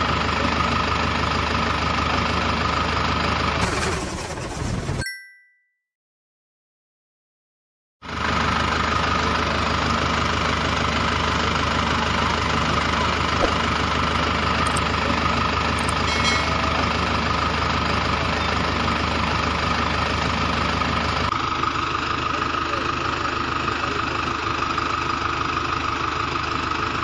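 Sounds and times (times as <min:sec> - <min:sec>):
engine idling: 0:00.0 - 0:05.0, 0:08.0 - 0:27.0.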